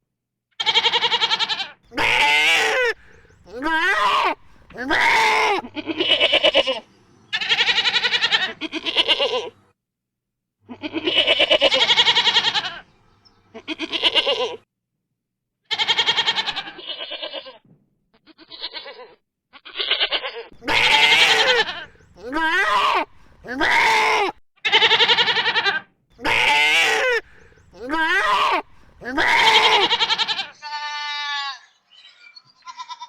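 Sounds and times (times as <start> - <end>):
goats bleating: 0.6 - 9.6, 10.7 - 12.9, 13.5 - 14.6, 15.7 - 17.6, 18.2 - 31.8, 32.6 - 33.0.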